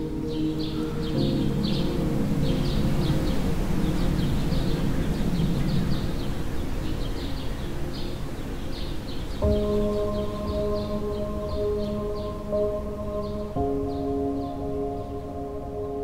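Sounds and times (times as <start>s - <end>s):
low rumbling wind: 0.0s - 16.0s
small birds chirping: 0.0s - 16.0s
soft held music chord: 0.0s - 16.0s.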